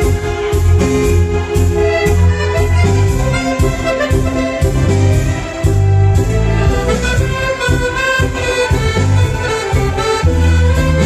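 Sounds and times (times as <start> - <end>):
ballroom dance band playing: 0.0 - 11.0.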